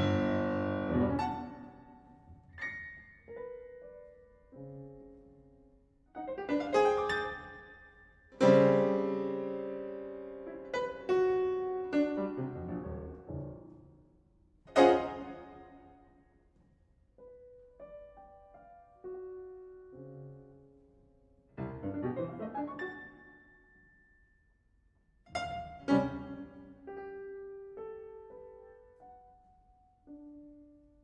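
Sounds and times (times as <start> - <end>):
solo piano classical music: 0.0 - 24.4, 25.3 - 31.0.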